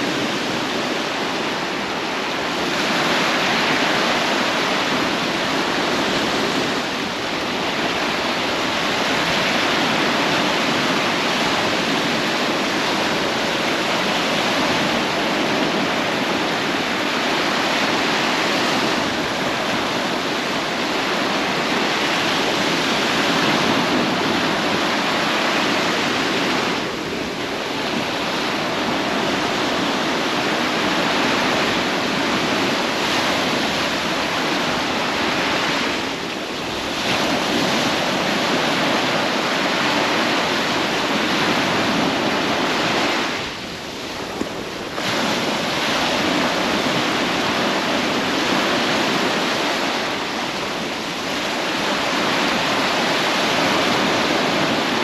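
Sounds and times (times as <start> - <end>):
ocean surf washing on beach: 0.0 - 55.0.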